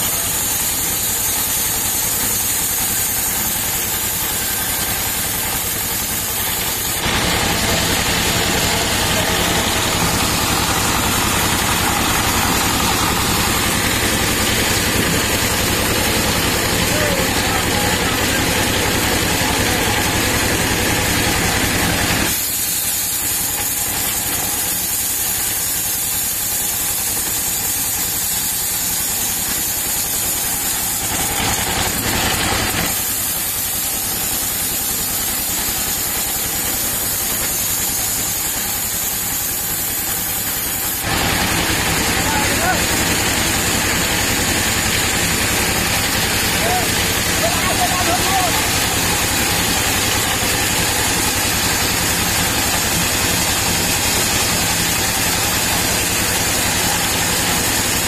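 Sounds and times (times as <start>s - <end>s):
band saw cutting log: 0.0s - 58.0s
band saw motor hum: 0.0s - 58.0s.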